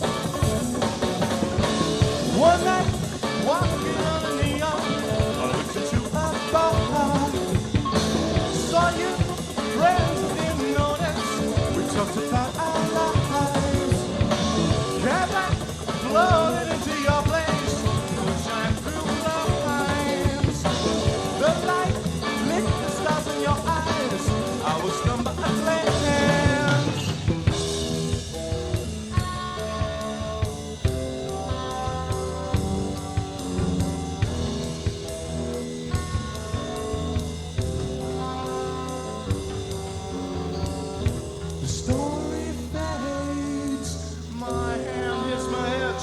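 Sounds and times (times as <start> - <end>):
drums: 0.0 - 46.0
live rock band playing: 0.0 - 46.0.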